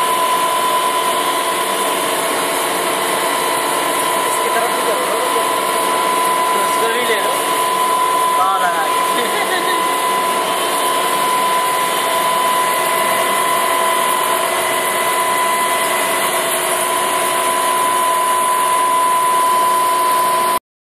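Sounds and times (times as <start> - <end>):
machine humming with high whine: 0.0 - 20.6.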